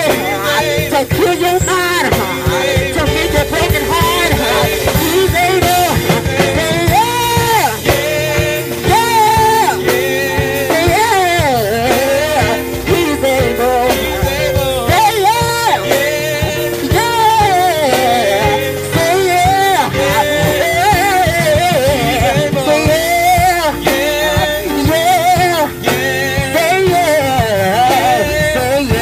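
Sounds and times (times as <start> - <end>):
drums: 0.0 - 29.0
gospel band playing: 0.0 - 29.0
person singing: 0.0 - 29.0.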